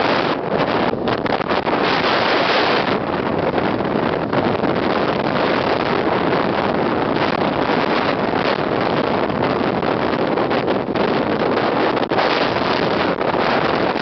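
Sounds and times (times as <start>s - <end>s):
storm surf: 0.0s - 14.0s
wind buffeting microphone: 0.0s - 14.0s.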